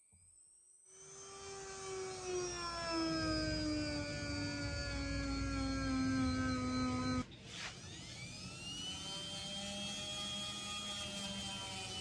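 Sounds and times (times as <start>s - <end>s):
rotary tool motor whine: 0.4s - 12.0s.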